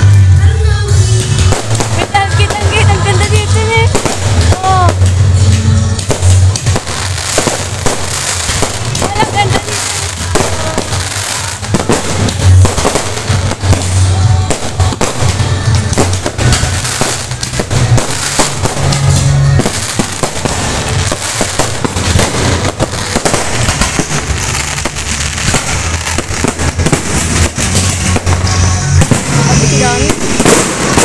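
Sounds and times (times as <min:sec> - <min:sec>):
fireworks bangs and crackling: 0:00.0 - 0:31.0
music: 0:00.0 - 0:31.0.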